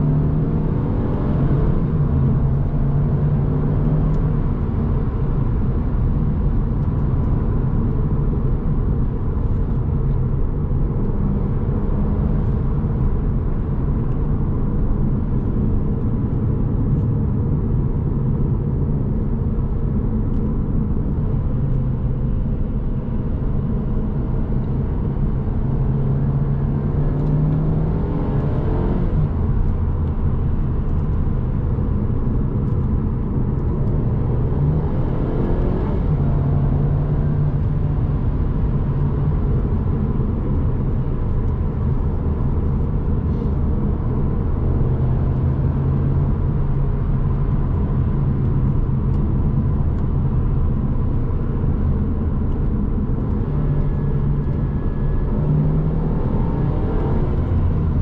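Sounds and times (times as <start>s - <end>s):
car engine cruising: 0.0s - 58.0s
road noise: 0.0s - 58.0s.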